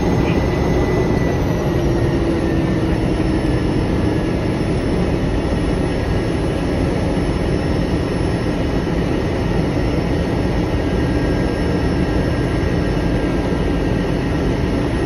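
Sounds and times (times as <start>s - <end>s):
propeller aircraft engine running: 0.0s - 15.0s.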